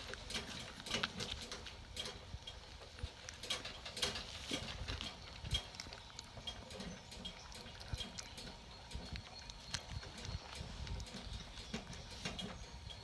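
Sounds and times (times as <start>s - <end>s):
puppies grunting and squeaking: 0.0s - 13.0s.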